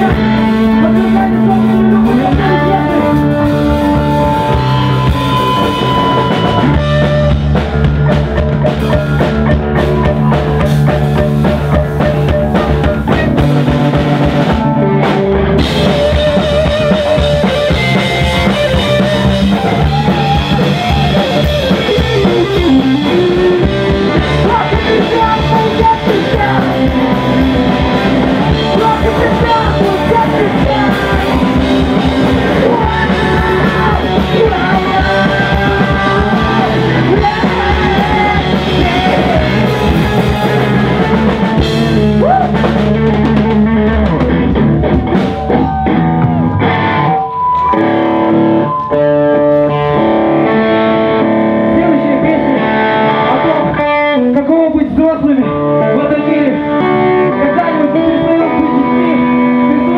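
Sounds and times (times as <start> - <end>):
person singing: 0.0 - 13.7, 14.5 - 44.4, 51.0 - 59.9
electric guitar chords: 0.0 - 59.9
punk rock band playing: 0.0 - 59.9.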